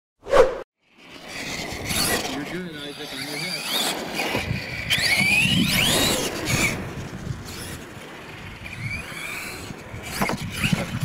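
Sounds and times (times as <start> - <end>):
rc truck motor whining: 0.8 - 11.0
tyres on gravel: 1.0 - 11.0.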